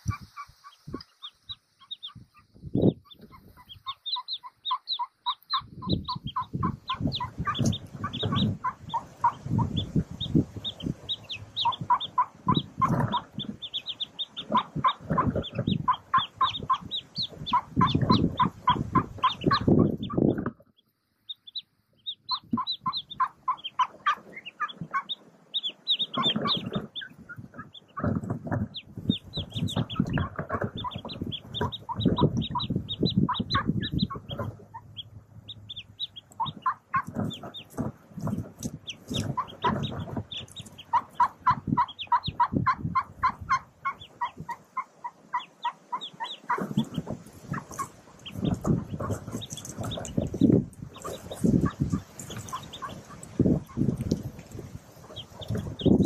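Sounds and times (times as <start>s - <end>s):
rustling in nest litter: 0.0s - 20.6s, 21.4s - 56.0s
ducklings peeping: 0.0s - 56.0s.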